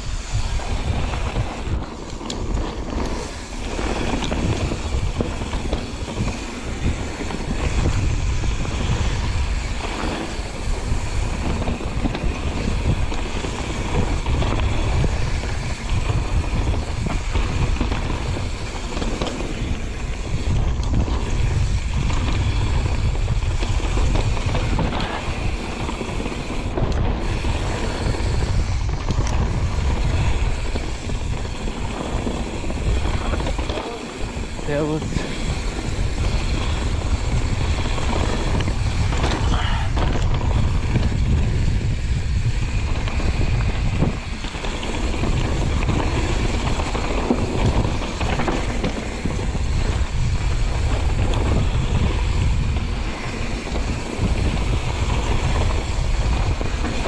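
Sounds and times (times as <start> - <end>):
bike knocking and rattling: 0.0 - 57.0
bike tyre noise: 0.0 - 57.0
wind on microphone: 0.0 - 57.0.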